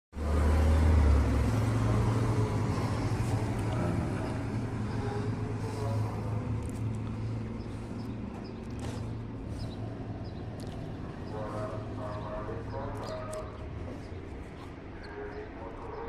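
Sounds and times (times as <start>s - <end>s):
vehicle engine rumbling low: 0.2s - 16.0s.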